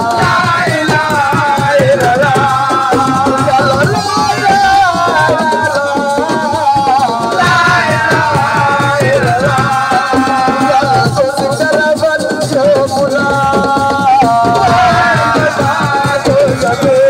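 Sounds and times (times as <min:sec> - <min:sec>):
fast hand-drum percussion: 0:00.0 - 0:17.0.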